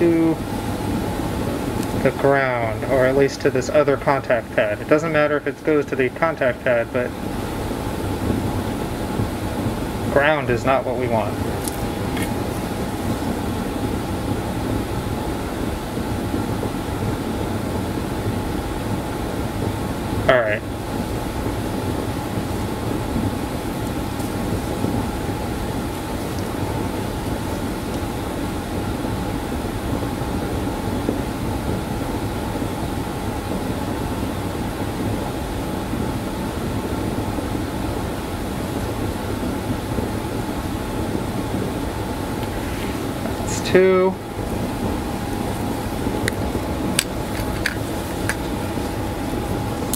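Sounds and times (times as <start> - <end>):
machine hum and air noise: 0.0 - 49.9.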